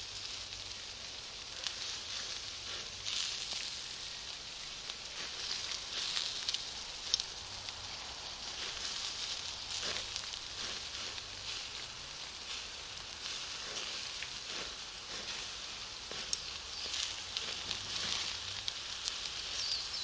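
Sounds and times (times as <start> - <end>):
fire hissing and crackling: 0.0 - 20.0
sharp pops from fire: 0.2 - 20.0.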